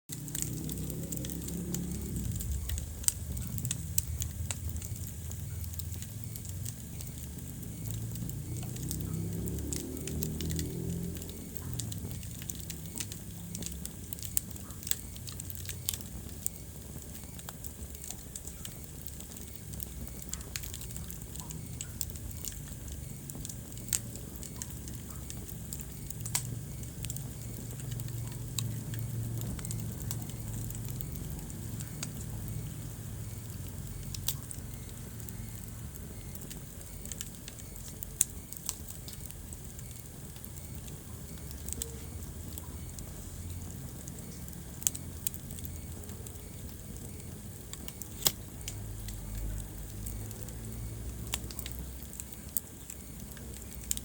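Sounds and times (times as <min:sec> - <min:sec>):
low rumble of flames: 0:00.1 - 0:54.0
wood fire popping and snapping: 0:00.1 - 0:54.0.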